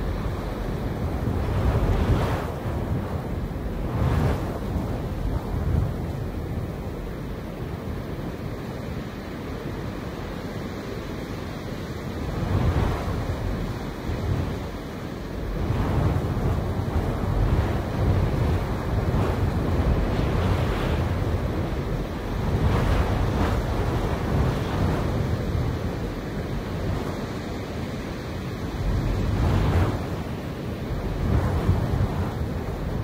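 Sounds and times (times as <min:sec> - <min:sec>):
wind blowing through grass: 0:00.0 - 0:33.0
wind in trees: 0:00.0 - 0:33.0.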